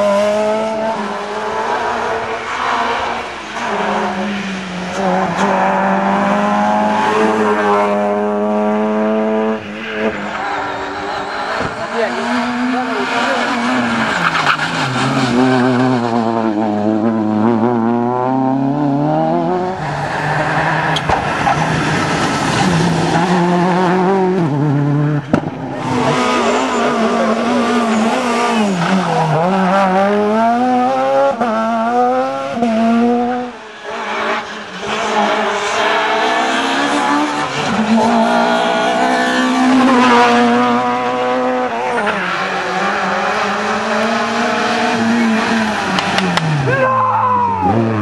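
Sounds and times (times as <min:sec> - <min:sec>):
rally car engines revving: 0:00.0 - 0:48.0.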